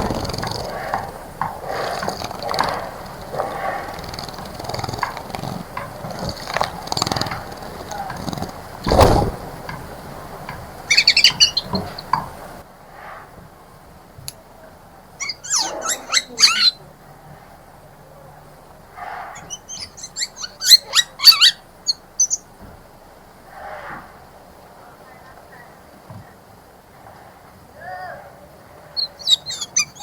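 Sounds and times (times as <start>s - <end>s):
songbirds chirping: 0.0s - 12.8s, 13.6s - 27.2s, 28.3s - 30.0s.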